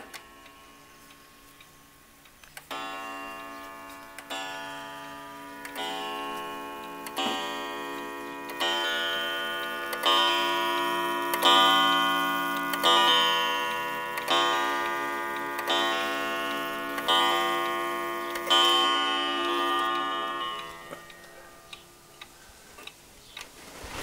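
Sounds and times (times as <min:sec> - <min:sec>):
wall clock striking gong: 0:02.7 - 0:22.0.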